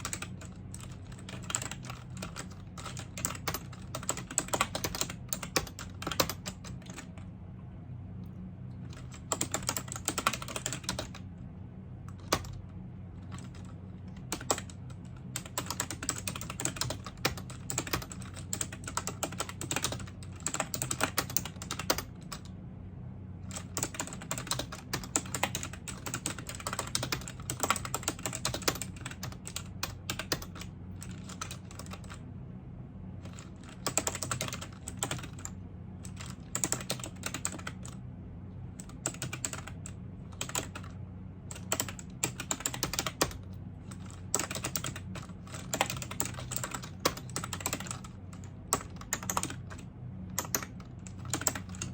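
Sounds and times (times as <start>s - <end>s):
typing on computer keyboard: 0.0s - 7.2s, 8.9s - 11.2s, 12.1s - 12.6s, 13.2s - 22.5s, 23.5s - 32.2s, 33.2s - 38.0s, 38.8s - 51.9s
steady low hum: 0.0s - 51.9s.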